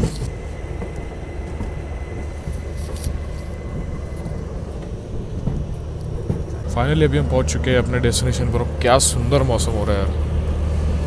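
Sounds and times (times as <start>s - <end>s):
faint thin whine: 0.0s - 10.2s
train rumbling: 0.0s - 11.0s.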